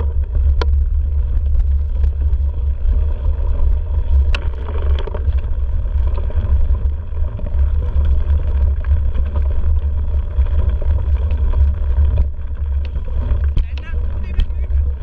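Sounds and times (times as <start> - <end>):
bike rattling and clicking: 0.0 - 15.0
bike tyres on leaves: 0.0 - 15.0
wind buffeting microphone: 0.0 - 15.0.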